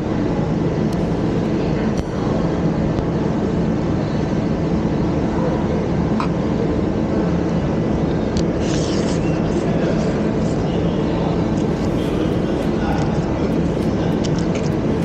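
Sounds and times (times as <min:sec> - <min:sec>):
food court crowd rumble: 0:00.0 - 0:15.0.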